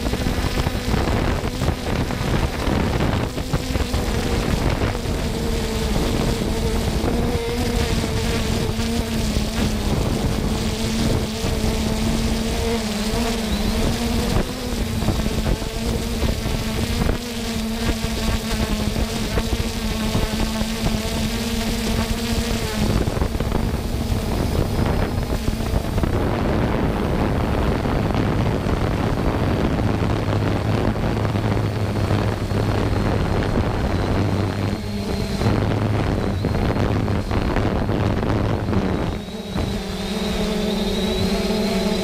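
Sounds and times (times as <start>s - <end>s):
drone propellers buzzing: 0.0s - 42.0s
wind noise on microphone: 0.0s - 42.0s.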